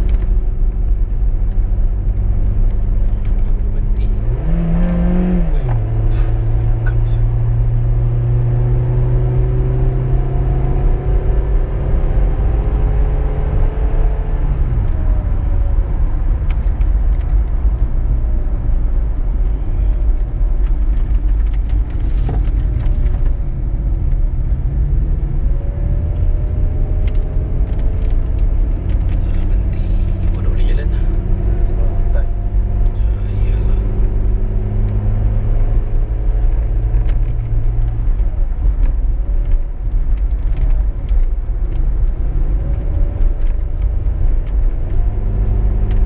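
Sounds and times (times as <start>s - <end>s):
car road and engine rumble: 0.0s - 46.0s.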